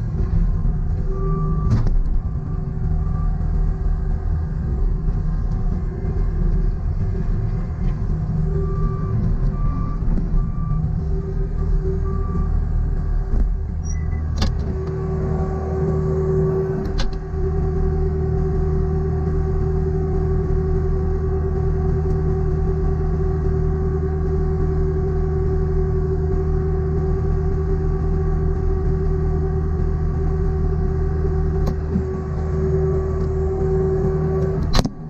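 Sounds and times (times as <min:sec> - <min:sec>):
diesel engine running steadily: 0:00.0 - 0:35.0.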